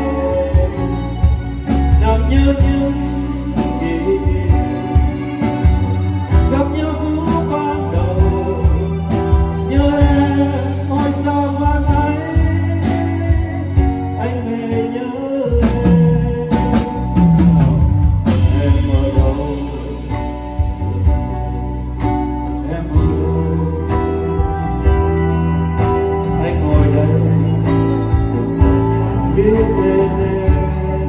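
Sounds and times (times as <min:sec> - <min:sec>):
acoustic guitar strumming: 0:00.0 - 0:31.0
drum kit: 0:00.0 - 0:31.0
electronic keyboard: 0:00.0 - 0:31.0
man singing: 0:00.0 - 0:31.0.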